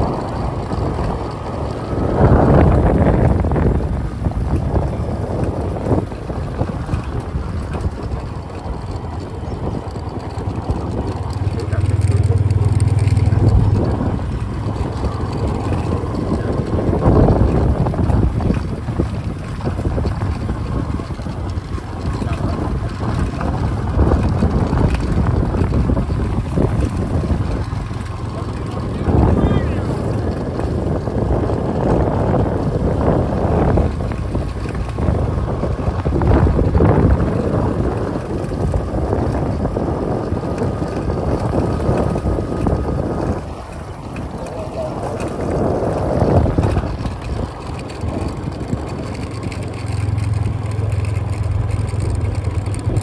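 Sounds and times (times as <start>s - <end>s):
wind buffeting the microphone: 0.0s - 53.0s.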